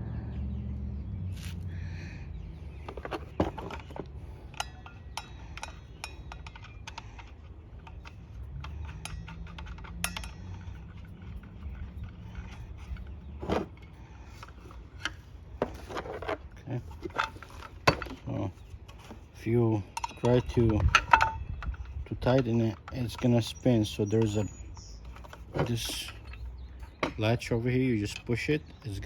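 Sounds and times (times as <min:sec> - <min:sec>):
metal parts clicking and clinking: 0:02.8 - 0:29.0.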